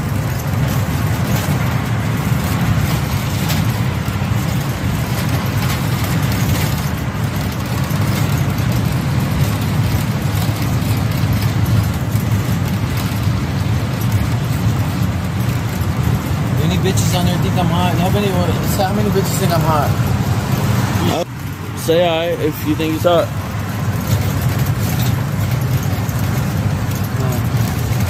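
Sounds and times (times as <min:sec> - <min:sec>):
road and engine rumble in cabin: 0:00.0 - 0:28.0.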